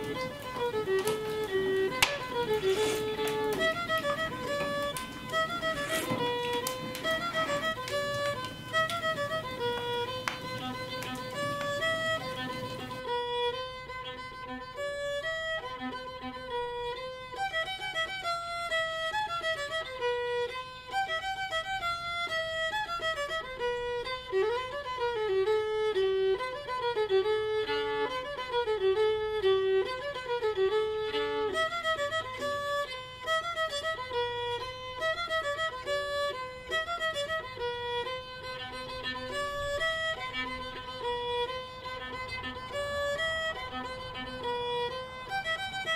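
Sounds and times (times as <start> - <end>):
fiddle music: 0.0 - 45.9.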